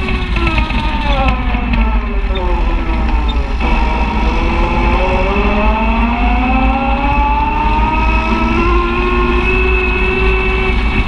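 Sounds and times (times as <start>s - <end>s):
low rumble: 0.0s - 11.0s
utility vehicle engine running: 0.0s - 11.0s.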